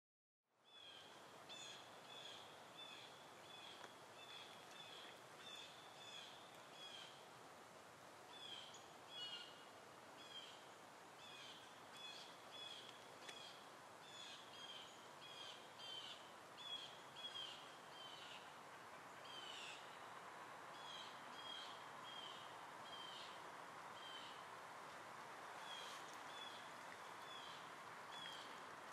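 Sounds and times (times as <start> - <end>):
faint outdoor hiss: 0.5 - 28.9.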